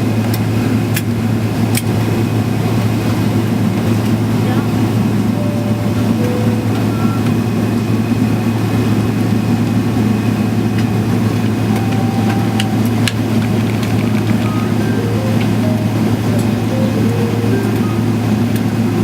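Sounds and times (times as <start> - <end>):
air-conditioning rush: 0.0 - 19.0
jet engines idling: 0.0 - 19.0.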